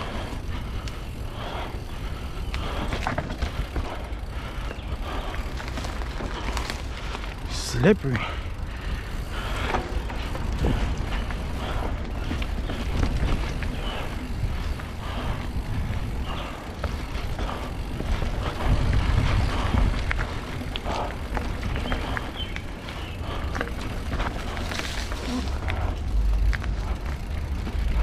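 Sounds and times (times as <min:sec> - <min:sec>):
bike clicks and rattles: 0:00.0 - 0:28.0
tyre noise on dirt: 0:00.0 - 0:28.0
wind buffeting microphone: 0:00.0 - 0:28.0.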